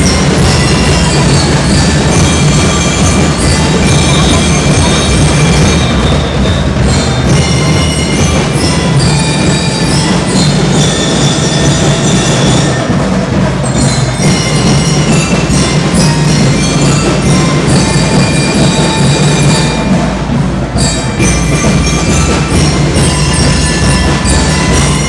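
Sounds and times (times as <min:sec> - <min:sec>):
bell-like ringing tones: 0:00.0 - 0:25.0
drums: 0:00.0 - 0:25.0
school band playing: 0:00.0 - 0:25.0.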